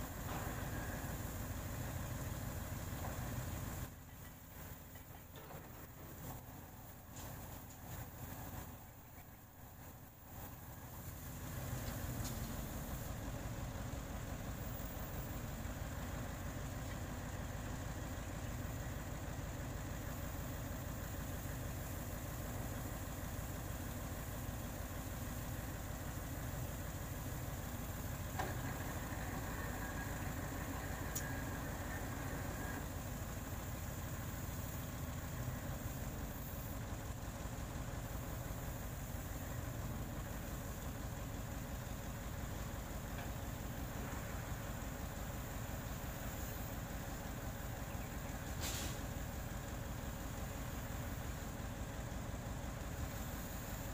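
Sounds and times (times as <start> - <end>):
faint high whine: 0.0 - 51.6
diesel engine running: 0.0 - 53.9.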